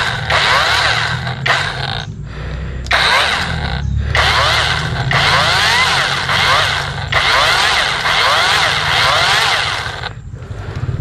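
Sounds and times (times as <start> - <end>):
electric chainsaw cutting branch: 0.0 - 2.1, 2.9 - 10.2.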